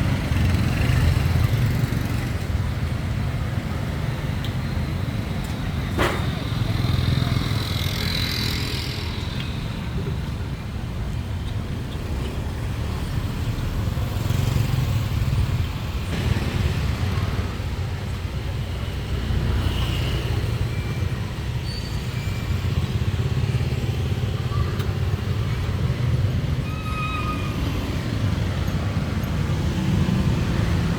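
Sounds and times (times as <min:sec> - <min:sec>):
rumble of passing vehicles: 0:00.0 - 0:30.9.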